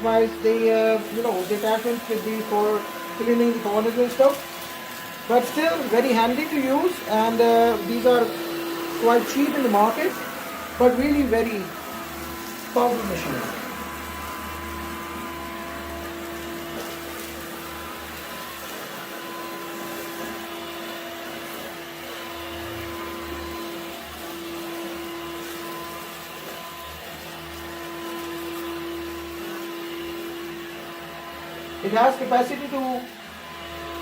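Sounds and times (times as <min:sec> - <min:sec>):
stick vacuum motor whining: 0:00.0 - 0:34.0.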